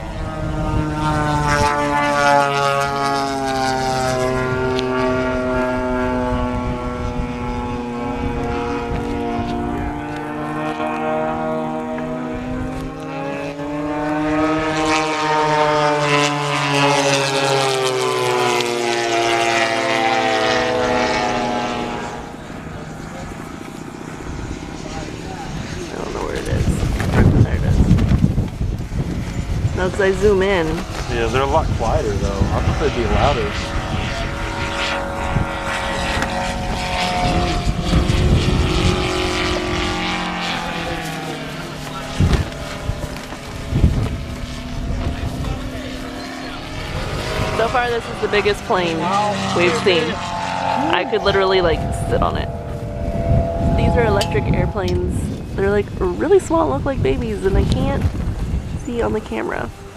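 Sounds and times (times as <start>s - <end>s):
model airplane motor buzzing past: 0.0s - 59.9s
wind rumble on microphone: 0.0s - 59.9s.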